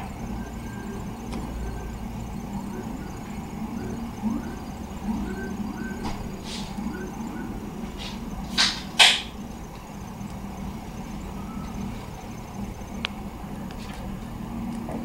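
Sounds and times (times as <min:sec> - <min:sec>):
loud hissing bursts: 0:00.0 - 0:12.9
city traffic hum: 0:00.0 - 0:15.0.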